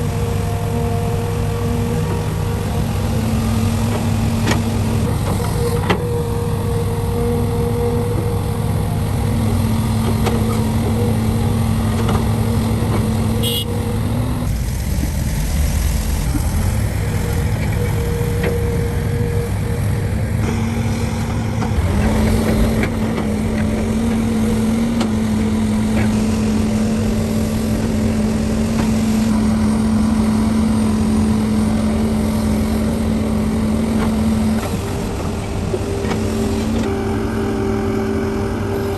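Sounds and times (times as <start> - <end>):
heavy diesel machinery rumbling: 0.0 - 38.9.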